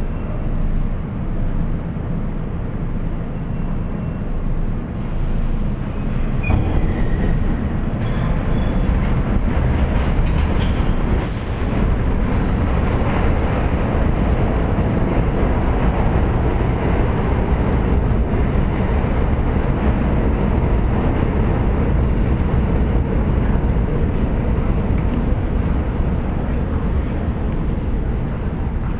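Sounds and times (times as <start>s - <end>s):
subway train wheels rumbling: 0.0s - 28.9s.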